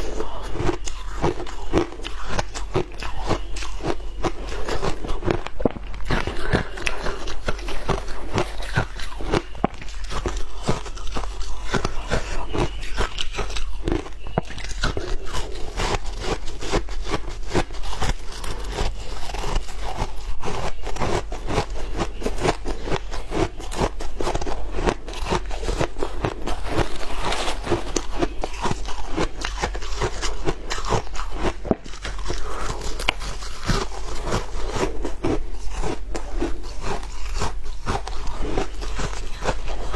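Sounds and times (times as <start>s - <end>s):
shaved ice crunching: 0.0s - 39.9s.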